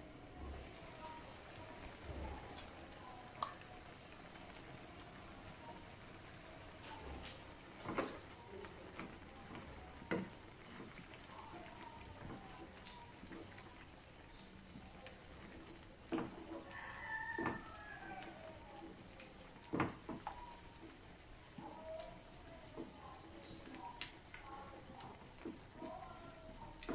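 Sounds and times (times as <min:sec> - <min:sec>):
sauce sizzling: 0:00.0 - 0:26.9.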